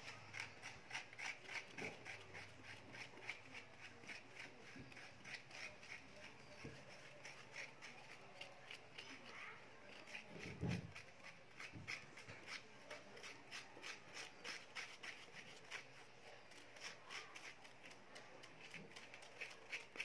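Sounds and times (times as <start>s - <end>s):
spoons scraping banana flesh: 0.0s - 20.0s.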